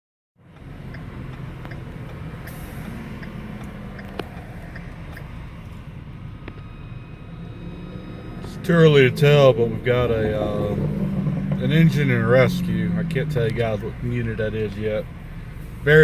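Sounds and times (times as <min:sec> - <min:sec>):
traffic engine rumble: 0:00.4 - 0:16.0.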